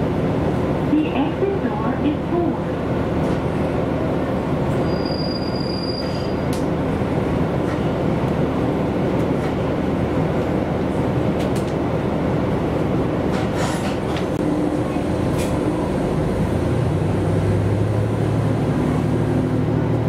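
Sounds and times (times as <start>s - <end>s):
railcar engine and wheels rumbling: 0.0s - 20.0s.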